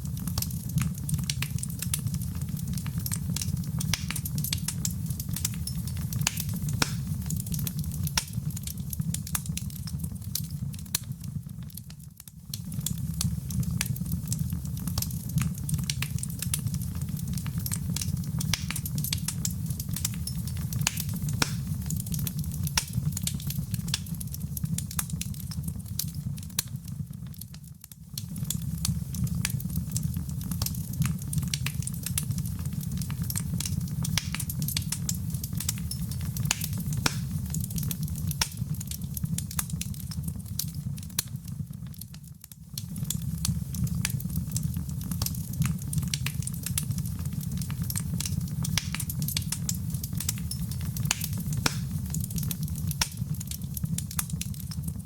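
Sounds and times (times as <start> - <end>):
fire crackling pops and snaps: 0.0 - 55.0.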